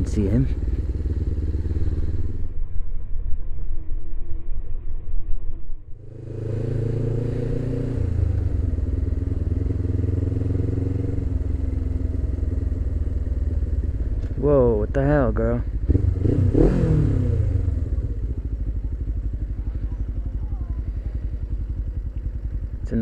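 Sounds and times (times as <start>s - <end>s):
motorcycle engine rumbling: 0.0s - 4.8s, 5.8s - 23.0s.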